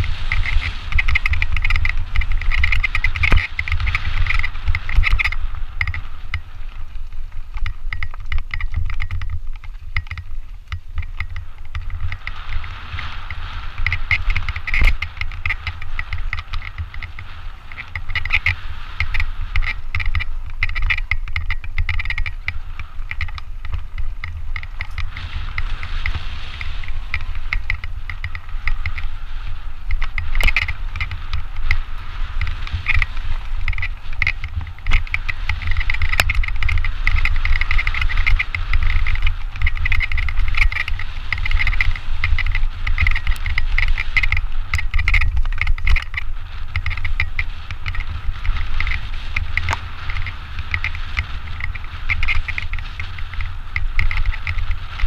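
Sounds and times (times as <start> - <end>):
bike rattling: 0.0 - 55.0
wind rumble on microphone: 0.0 - 55.0.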